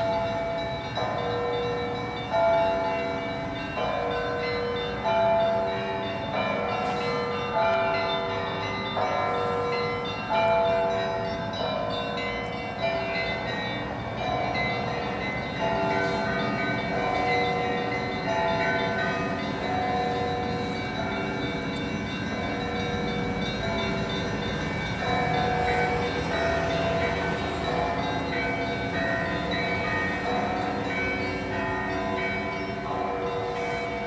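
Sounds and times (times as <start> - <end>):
church bells ringing a peal: 0.0 - 34.0.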